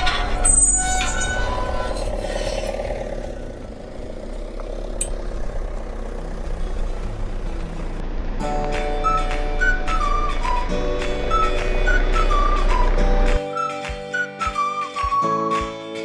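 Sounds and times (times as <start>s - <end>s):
van engine rumbling: 0.0s - 13.4s.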